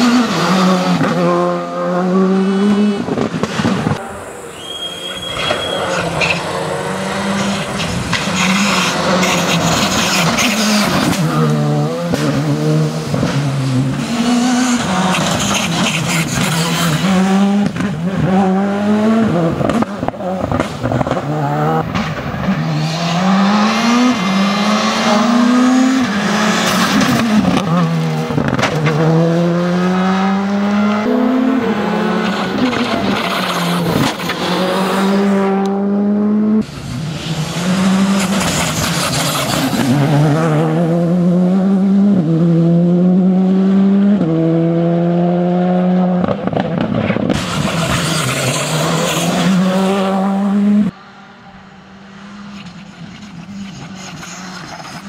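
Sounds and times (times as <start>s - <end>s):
rally car engine revving: 0.0s - 4.4s, 5.1s - 55.0s.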